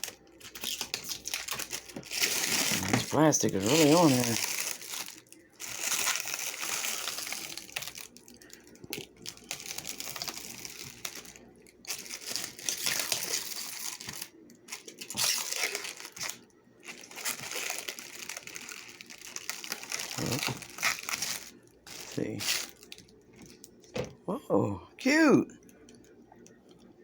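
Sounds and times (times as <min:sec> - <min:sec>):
plastic wrapping crinkling: 0:00.0 - 0:24.0.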